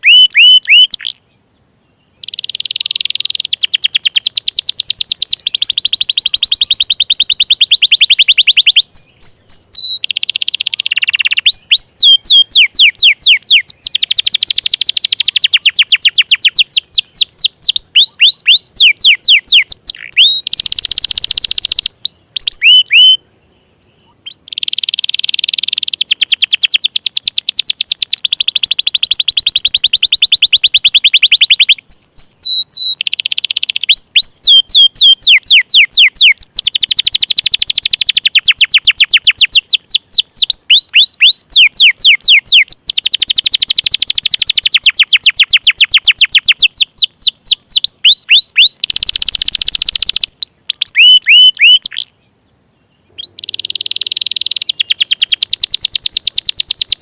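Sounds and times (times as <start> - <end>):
canary singing trills and chirps: 0.0 - 1.4, 2.0 - 23.2, 23.9 - 57.0.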